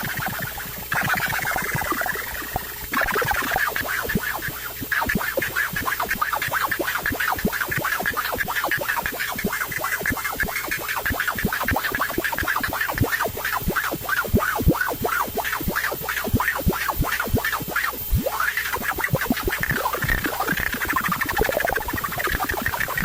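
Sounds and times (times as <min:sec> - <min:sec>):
rapid synthesizer clicks and pulses: 0:00.0 - 0:23.0.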